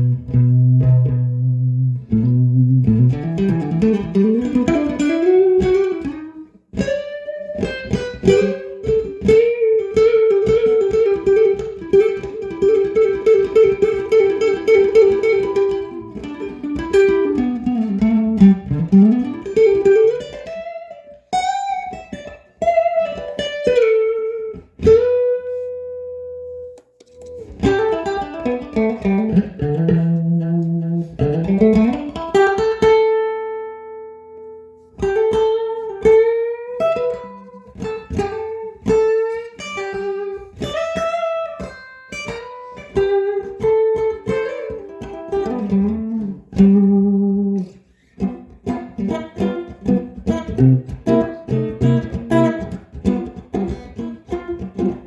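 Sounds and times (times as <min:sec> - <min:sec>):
electric guitar lead line: 0:00.0 - 0:55.0.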